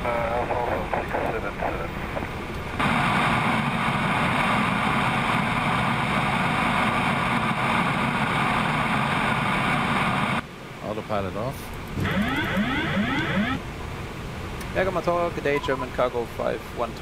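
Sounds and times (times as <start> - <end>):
airflow and engine roar: 0.0 - 17.0.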